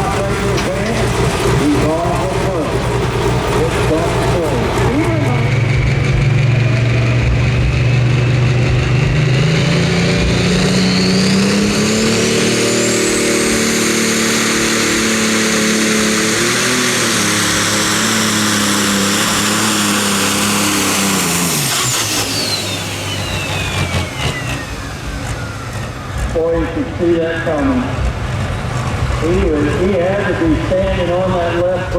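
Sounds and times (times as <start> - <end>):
diesel tractor engine at full power: 0.0 - 31.9
turbocharger whine: 0.0 - 31.9.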